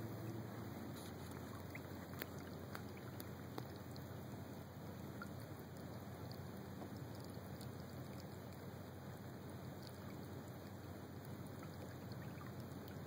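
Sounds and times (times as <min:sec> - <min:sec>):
water ticking against hull: 0:01.0 - 0:13.0.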